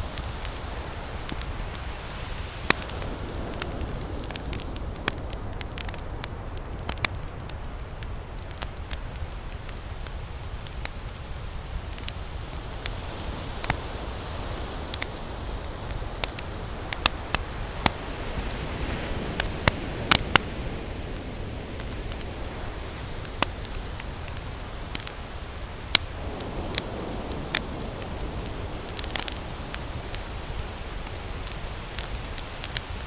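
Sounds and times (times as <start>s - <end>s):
campfire pops and snaps: 0.0s - 33.0s.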